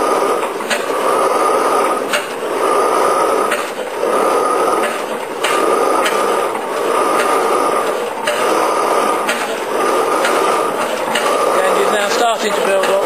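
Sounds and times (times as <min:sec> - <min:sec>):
engine loud regular beat: 0:00.0 - 0:13.0.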